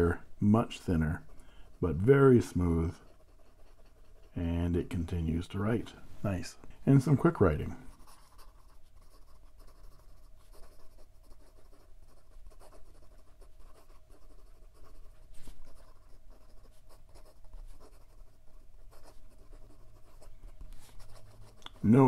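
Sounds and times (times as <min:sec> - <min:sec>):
pen nib scratching on paper: 0:01.1 - 0:05.0, 0:07.9 - 0:22.0.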